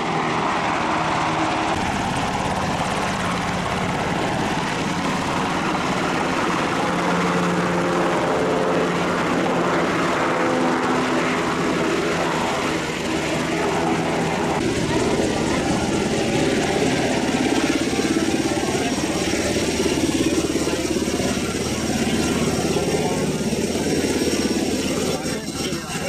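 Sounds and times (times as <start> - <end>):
aircraft engine droning: 0.0 - 26.0.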